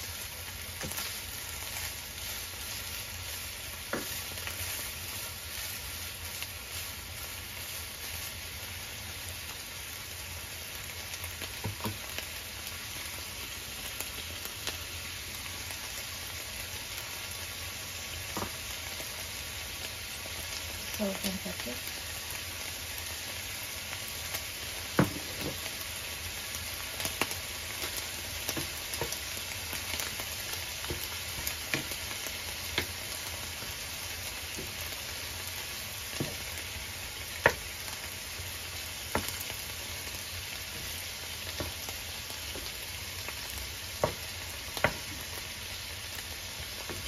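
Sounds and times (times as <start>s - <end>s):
food sizzling in a frying pan: 0.0s - 47.0s.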